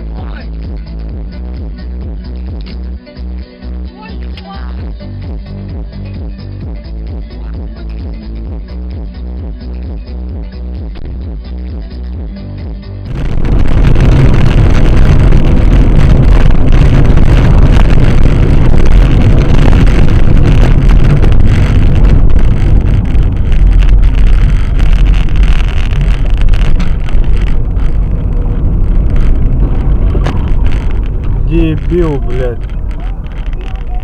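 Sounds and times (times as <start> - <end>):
road and wind noise in car: 0.0 - 34.0.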